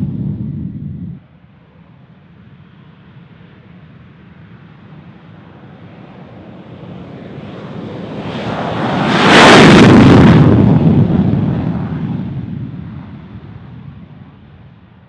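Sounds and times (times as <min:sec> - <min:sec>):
fighter jet engine roar: 0:00.0 - 0:15.0.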